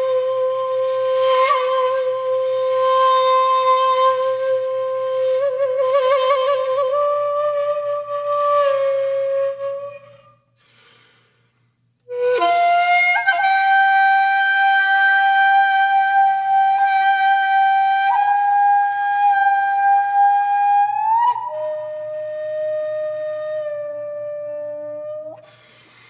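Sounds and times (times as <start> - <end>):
solo bamboo flute playing long notes: 0.0 - 10.5, 12.1 - 25.7.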